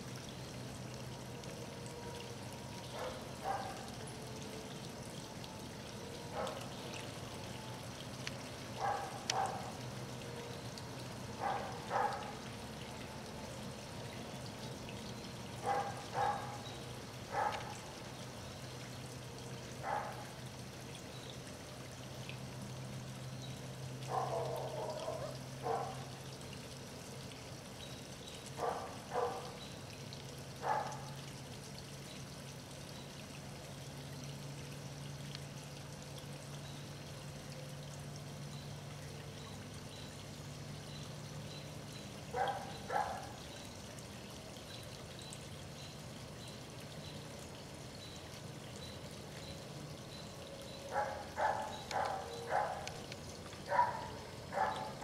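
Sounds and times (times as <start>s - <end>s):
low steady hum: 0.0s - 55.0s
water feature trickling into pond: 0.0s - 55.0s.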